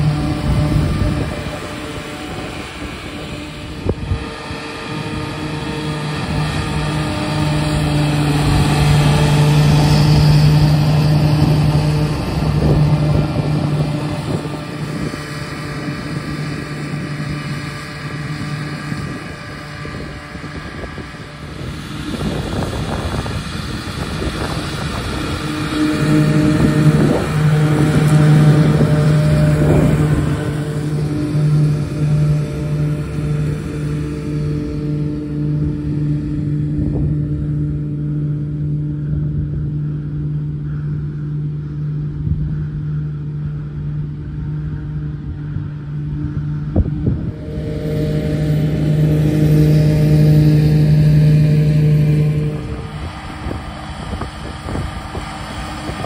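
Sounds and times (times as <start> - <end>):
mower cutting grass: 0.0 - 42.6, 43.2 - 56.0
tractor engine running: 0.0 - 56.0.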